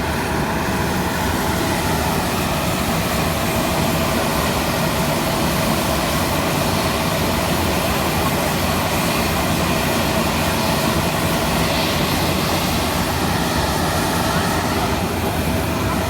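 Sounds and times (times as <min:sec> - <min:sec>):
aircraft engines running: 0:00.0 - 0:16.0.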